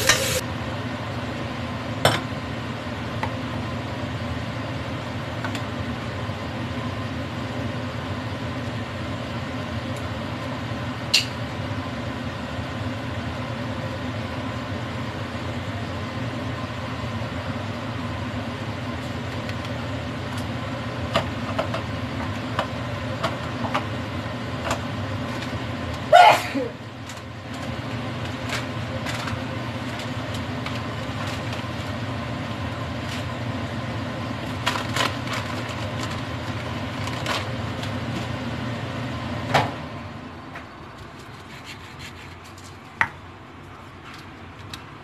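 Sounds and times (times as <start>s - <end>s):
kitchen appliances humming: 0.0s - 45.0s.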